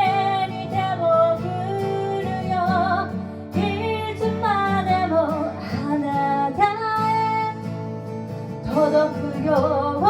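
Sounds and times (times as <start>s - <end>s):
guitar accompaniment: 0.0s - 10.0s
woman singing: 0.0s - 10.0s.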